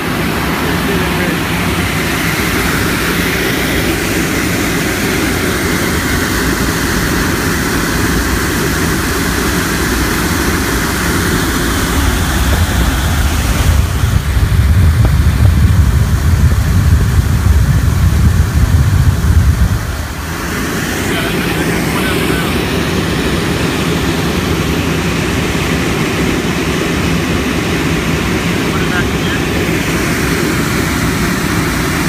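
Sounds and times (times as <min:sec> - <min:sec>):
air buffeting microphone: 0:00.0 - 0:32.0
air-conditioning unit blowing air: 0:00.0 - 0:32.0.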